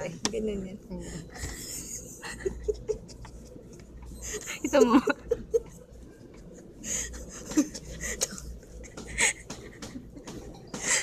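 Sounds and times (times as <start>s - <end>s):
women giggling: 1.4s - 11.0s.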